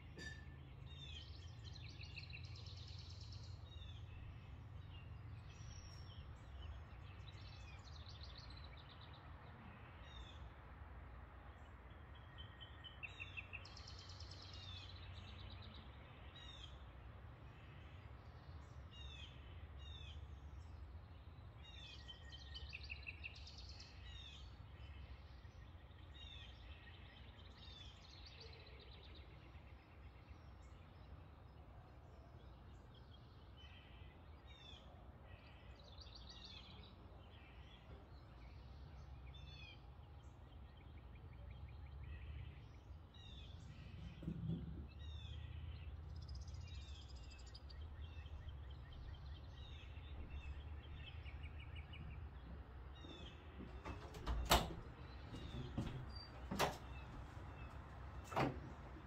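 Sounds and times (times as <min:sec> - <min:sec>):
faint songbird chirps: 0:00.0 - 0:59.0.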